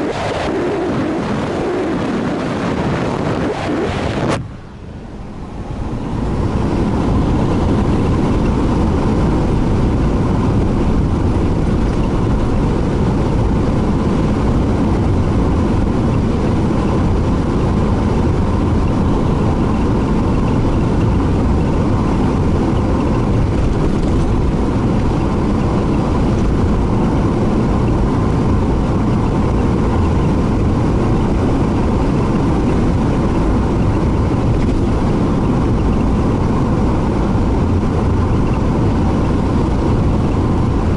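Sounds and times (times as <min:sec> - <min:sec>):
car interior road rumble: 0:00.0 - 0:40.9.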